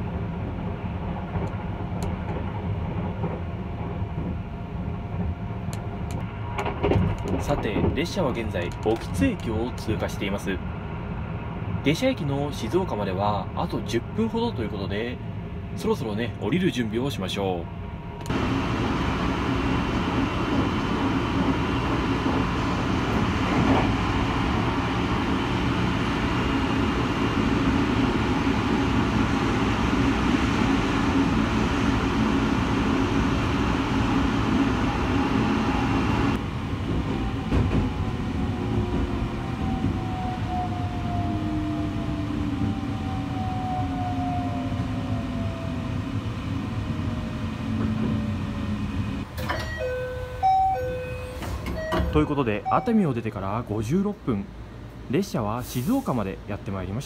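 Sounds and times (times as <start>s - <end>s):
train wheels rumbling on rails: 0.0s - 17.4s, 18.1s - 50.4s.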